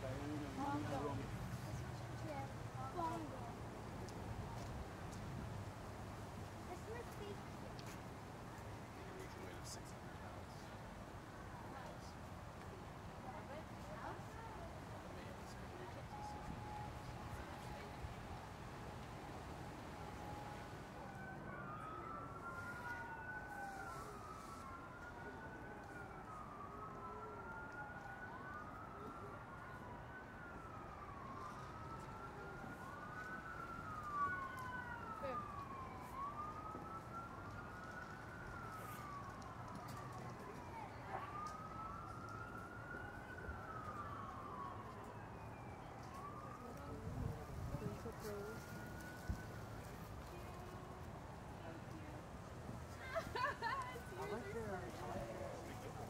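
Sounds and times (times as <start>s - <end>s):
faint siren wailing: 0.0s - 56.0s.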